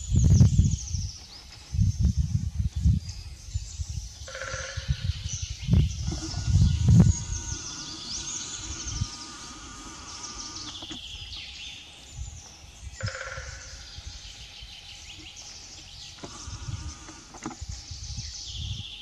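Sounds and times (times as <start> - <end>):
birds calling and singing: 0.0 - 19.0
wind rumble on microphone: 0.0 - 19.0.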